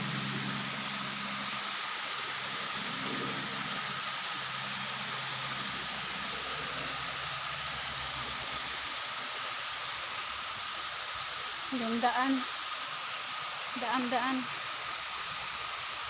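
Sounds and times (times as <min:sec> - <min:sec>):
mountain stream flowing: 0:00.0 - 0:16.0.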